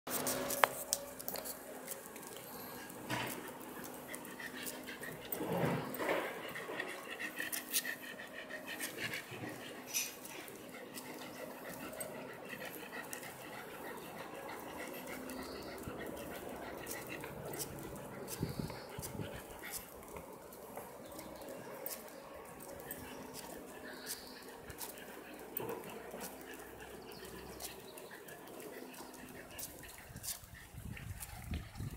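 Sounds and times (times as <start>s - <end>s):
dog panting: 0.2s - 31.9s.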